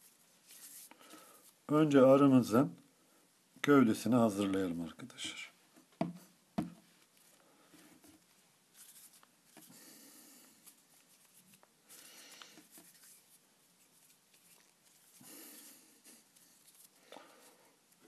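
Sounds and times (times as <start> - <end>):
hands handling play dough: 0.0 - 1.7, 3.9 - 18.0.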